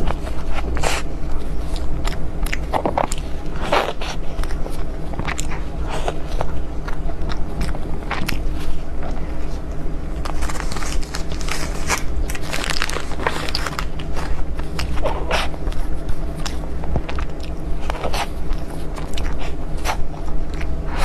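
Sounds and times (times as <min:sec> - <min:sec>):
crisp bites and chewing: 0:00.0 - 0:20.8
steady low hum: 0:00.0 - 0:21.0.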